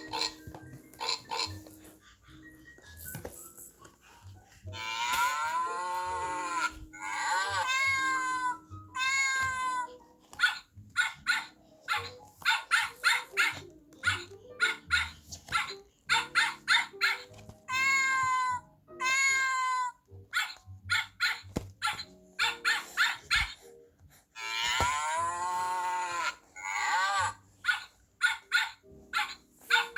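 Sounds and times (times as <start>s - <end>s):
light background music: 0.0s - 29.9s.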